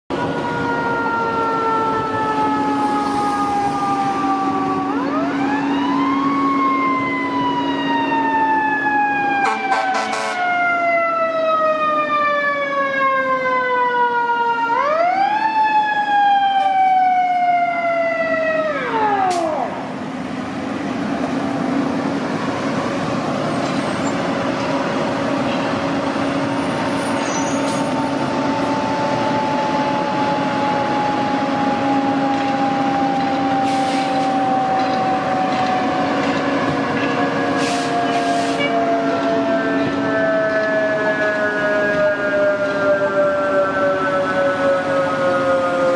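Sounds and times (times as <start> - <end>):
fire engine siren wailing: 0.1 - 45.9
low engine and traffic hum: 0.1 - 45.9.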